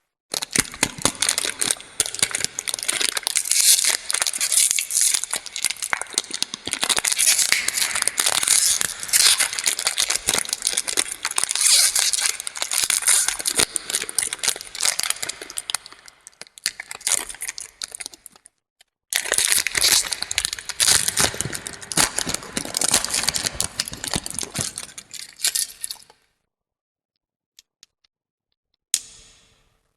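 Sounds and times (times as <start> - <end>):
plastic wrappers crinkling: 0.3 - 18.4, 19.2 - 26.2.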